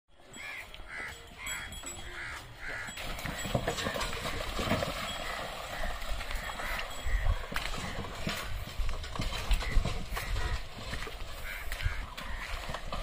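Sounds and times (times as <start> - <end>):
hooves on dirt track: 0.1 - 13.0
bird calling: 0.3 - 8.7, 9.4 - 12.8
cart wheels clattering: 0.3 - 13.0.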